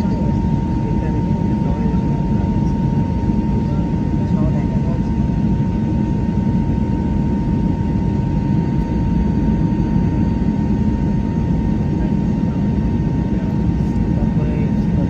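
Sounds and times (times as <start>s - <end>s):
jet airliner engine rumble: 0.0s - 15.0s
thin steady whine: 0.0s - 15.0s.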